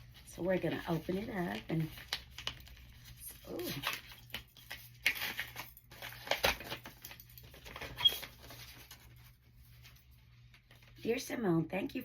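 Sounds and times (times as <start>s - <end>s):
packaging paper rustling: 0.0s - 11.0s.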